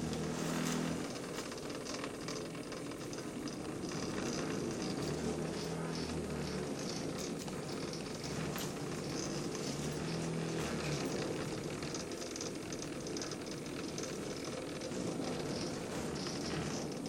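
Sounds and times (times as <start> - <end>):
machine motors humming: 0.0 - 17.0.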